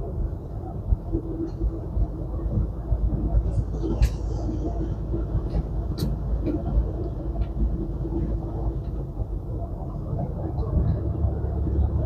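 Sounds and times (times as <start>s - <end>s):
diesel engine and road rumble: 0.0s - 12.0s.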